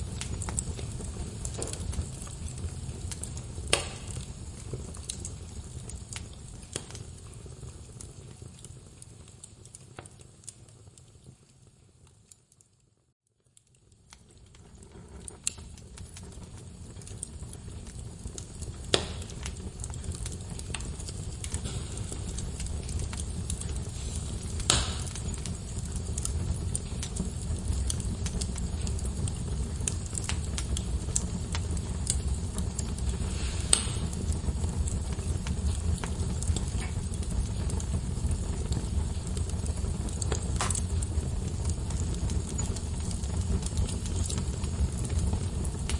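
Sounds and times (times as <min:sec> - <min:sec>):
sharp pops from burning logs: 0:00.0 - 0:11.2, 0:13.6 - 0:45.9
wood fire crackling: 0:00.0 - 0:45.9.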